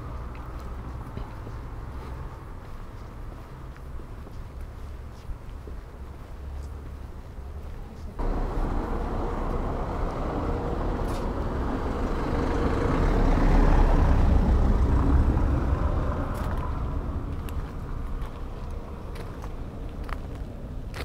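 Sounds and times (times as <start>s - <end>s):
vehicle passing on street: 0.0s - 21.0s.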